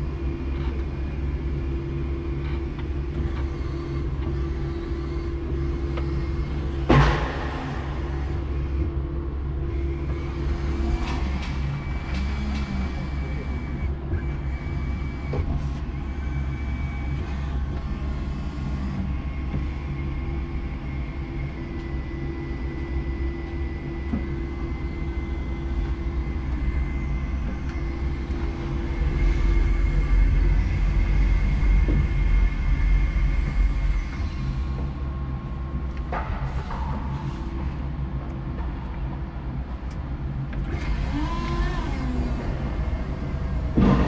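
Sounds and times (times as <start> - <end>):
hydraulic pump motor whine: 0.0 - 44.0.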